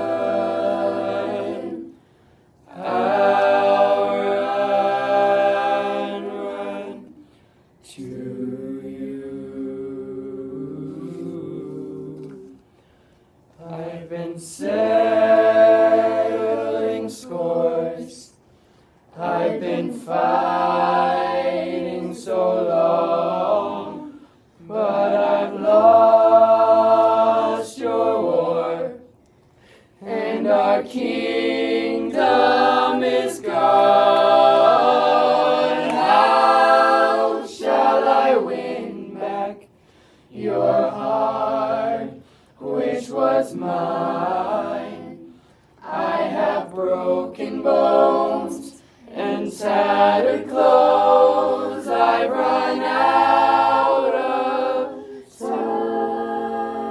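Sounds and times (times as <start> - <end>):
a cappella group singing: 0.0 - 56.9.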